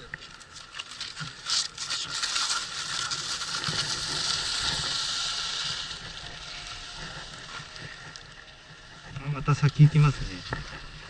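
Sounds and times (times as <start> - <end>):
skis scraping over snow: 0.4 - 11.0.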